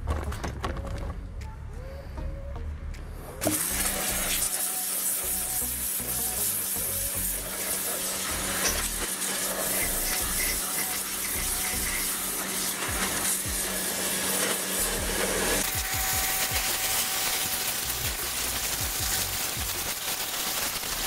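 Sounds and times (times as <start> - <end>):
pressure washer motor hum: 3.4 - 21.0
pressure washer spraying metal: 3.4 - 21.0.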